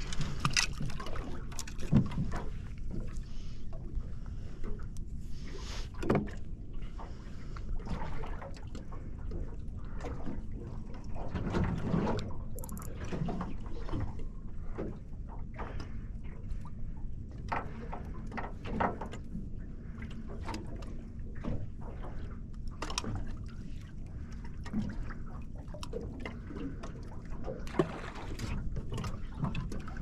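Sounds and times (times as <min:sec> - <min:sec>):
water lapping against boat hull: 0:00.0 - 0:30.0.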